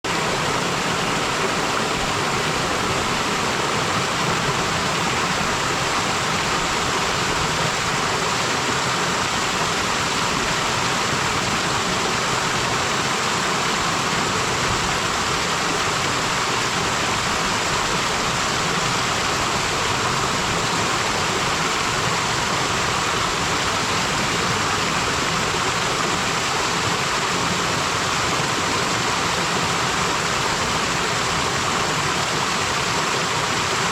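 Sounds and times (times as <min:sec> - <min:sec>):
water falling and splashing: 0:00.1 - 0:33.9.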